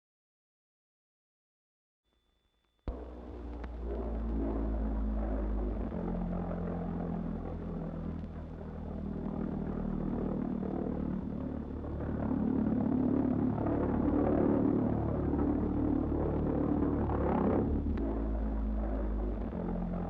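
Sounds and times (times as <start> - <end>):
low engine-like drone: 2.9 - 20.0.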